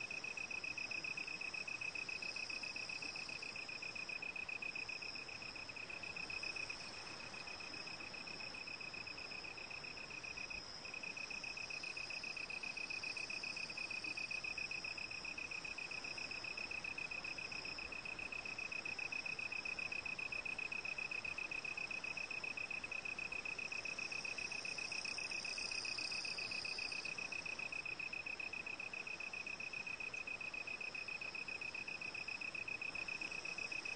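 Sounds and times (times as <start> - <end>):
cricket trilling: 0.0 - 33.9.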